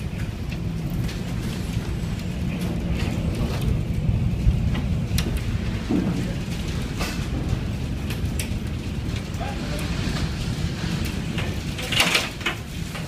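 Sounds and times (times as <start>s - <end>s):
rain: 0.0s - 13.0s
wind: 0.0s - 13.0s.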